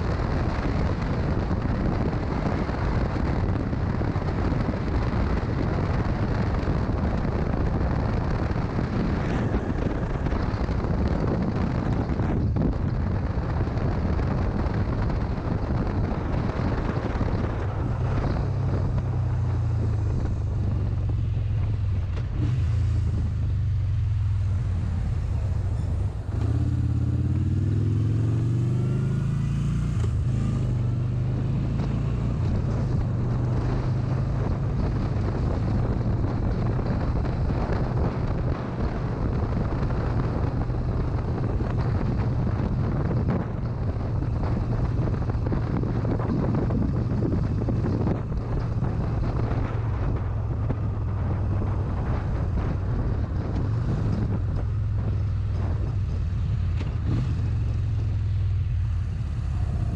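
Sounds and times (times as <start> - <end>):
motorcycle engine accelerating: 0.0 - 59.9
wind noise on microphone: 0.0 - 59.9.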